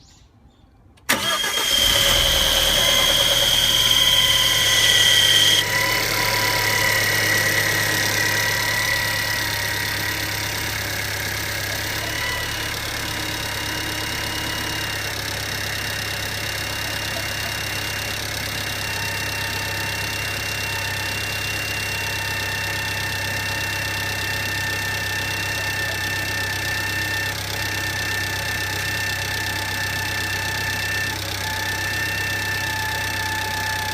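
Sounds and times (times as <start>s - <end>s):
engine starting and idling: 1.0s - 33.9s.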